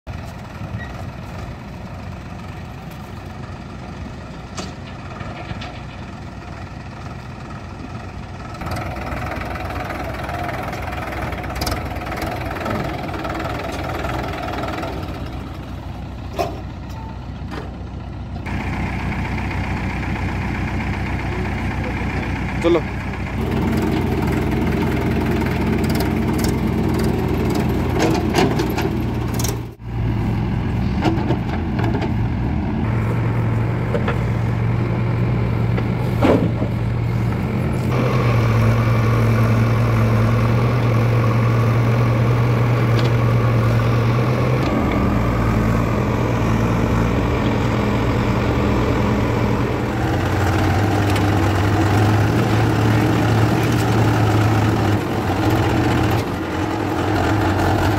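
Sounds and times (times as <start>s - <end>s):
diesel engines running: 0.0s - 57.9s.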